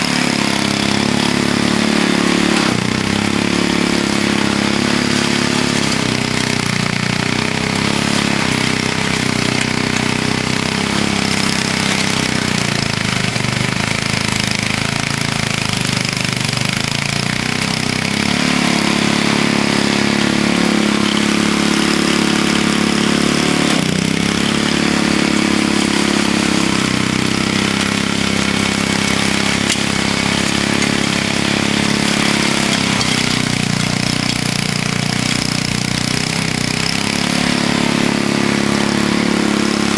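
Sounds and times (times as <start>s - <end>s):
snowblower engine bogging: 0.0s - 39.9s.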